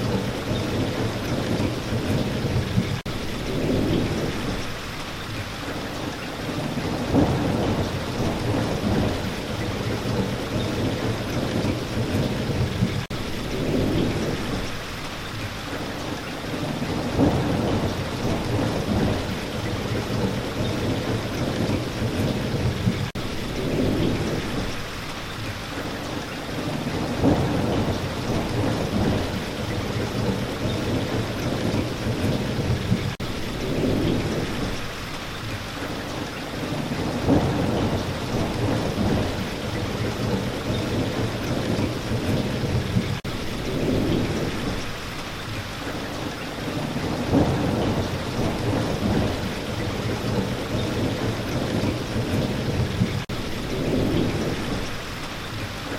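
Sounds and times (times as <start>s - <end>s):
low rolling thunder: 0.0s - 4.9s, 5.7s - 14.9s, 15.8s - 24.9s, 26.4s - 35.0s, 35.8s - 45.0s, 45.9s - 55.7s
steady rain: 0.0s - 55.9s.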